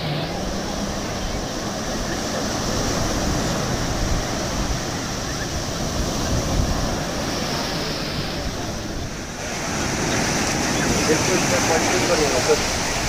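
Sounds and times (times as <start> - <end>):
sea surf breaking: 0.0 - 13.0
wind rumbling on microphone: 0.0 - 13.0.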